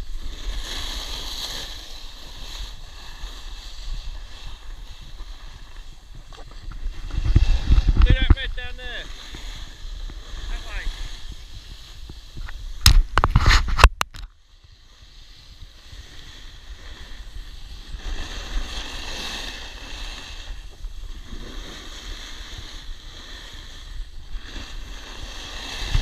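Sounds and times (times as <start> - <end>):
wind rumbling on microphone: 0.0 - 26.0
edges sliding over snow: 0.1 - 13.9, 14.7 - 26.0.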